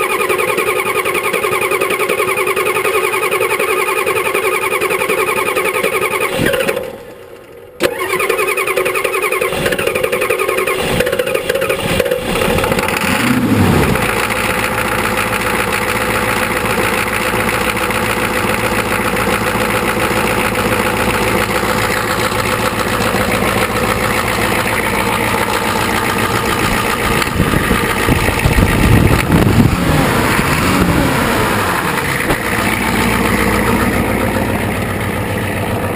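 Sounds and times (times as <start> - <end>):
diesel engine idling and revving: 0.0 - 35.9.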